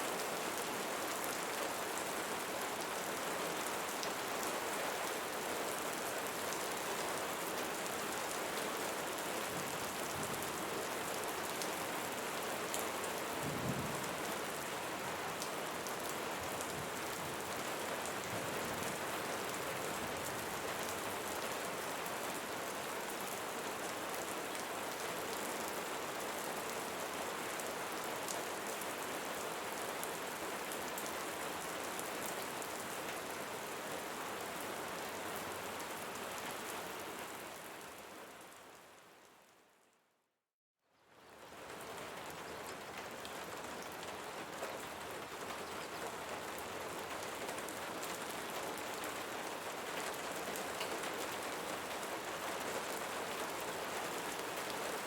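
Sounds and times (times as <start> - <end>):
rain on a hard surface: 0.0 - 40.0, 40.9 - 55.0.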